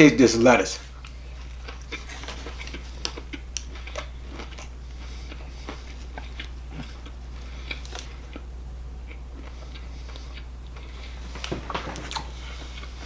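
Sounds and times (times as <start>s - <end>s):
steady low hum: 0.0s - 13.0s
chewing crunches and mouth clicks: 0.8s - 13.0s.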